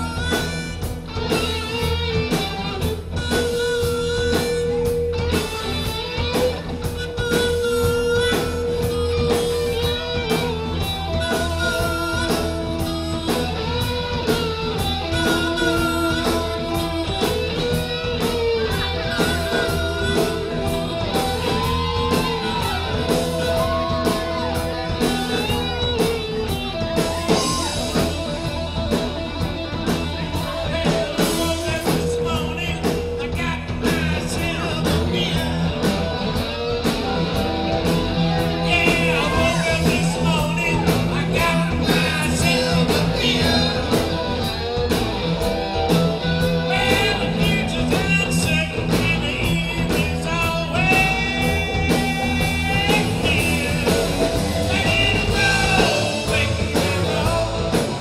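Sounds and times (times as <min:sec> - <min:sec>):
bass: 0:00.0 - 0:58.0
drum beat: 0:00.0 - 0:58.0
electric guitar lead: 0:00.0 - 0:58.0.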